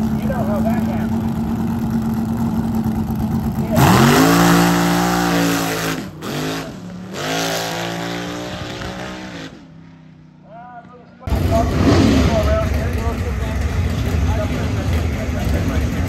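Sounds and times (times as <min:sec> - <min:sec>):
car engine revving: 0:00.0 - 0:10.0, 0:11.3 - 0:16.0.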